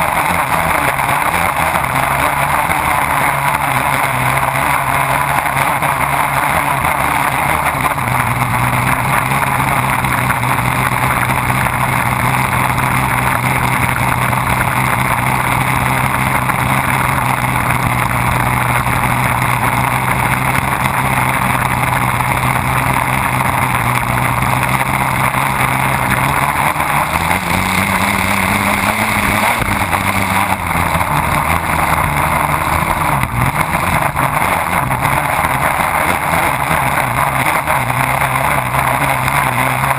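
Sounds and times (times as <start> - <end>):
boat engine running hard: 0.0 - 39.9.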